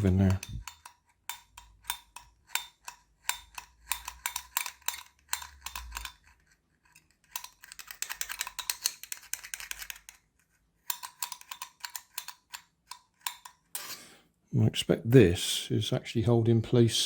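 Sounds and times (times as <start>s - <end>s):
small tool clicking and scraping: 0.0s - 14.2s.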